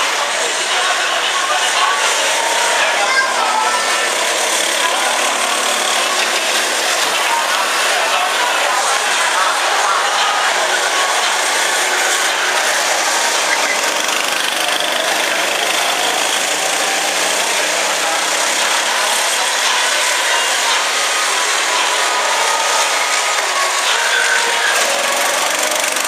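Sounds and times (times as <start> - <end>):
go-kart engines buzzing: 0.0 - 26.0.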